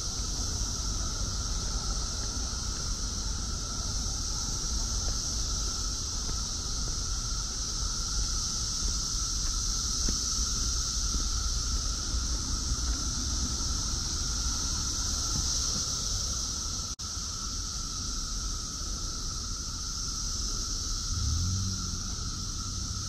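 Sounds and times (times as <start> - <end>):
cicadas high-pitched drone: 0.0 - 23.0.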